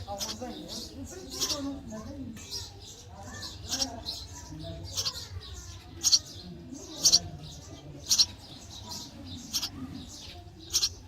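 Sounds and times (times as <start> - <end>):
sparrow chirping: 0.0 - 11.0.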